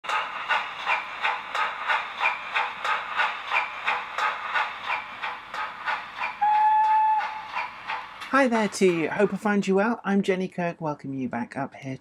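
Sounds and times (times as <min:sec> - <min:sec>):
model steam locomotive chuffs: 0:00.0 - 0:10.0.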